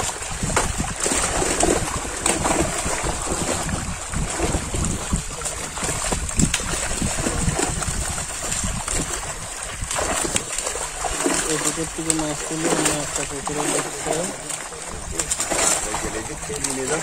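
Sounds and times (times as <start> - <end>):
fish thrashing and splashing: 0.0 - 17.0
wind rumble on microphone: 0.0 - 17.0.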